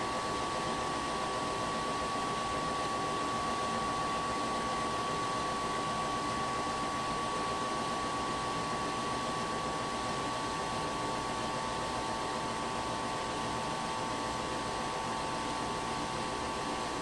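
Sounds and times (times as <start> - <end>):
blower fan air rush: 0.0 - 17.0
steady high hum: 0.0 - 17.0.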